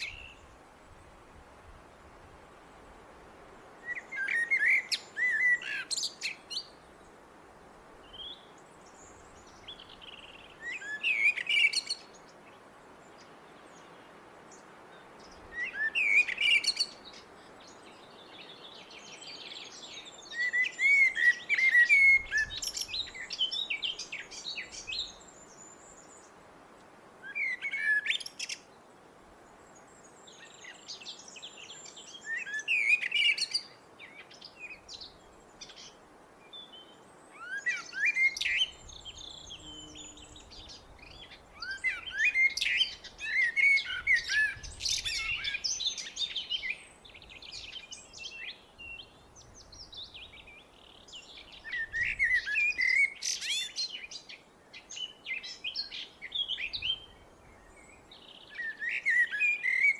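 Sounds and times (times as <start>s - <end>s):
blackbird singing: 3.8s - 6.8s, 8.1s - 12.2s, 15.3s - 26.3s, 27.2s - 28.7s, 30.3s - 36.0s, 36.6s - 59.9s.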